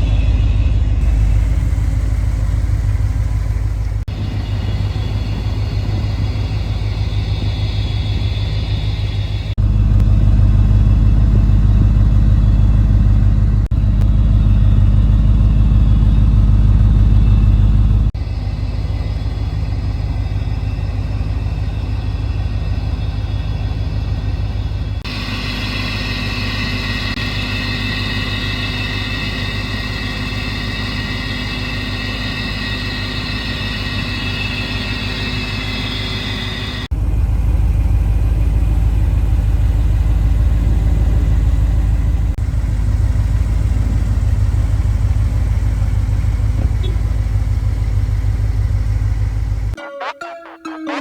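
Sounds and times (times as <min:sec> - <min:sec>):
car engine rumbling: 0:00.0 - 0:50.2
steady high whine: 0:00.0 - 0:51.0.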